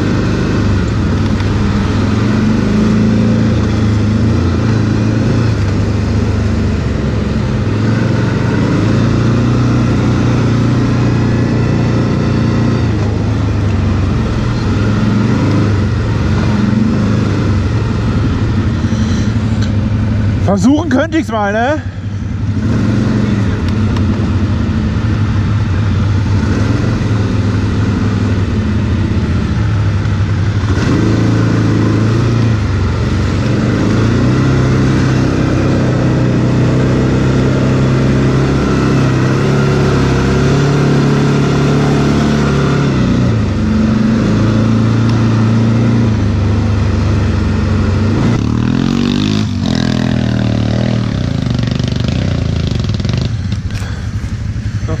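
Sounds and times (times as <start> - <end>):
quad engine running hard: 0.0 - 55.0.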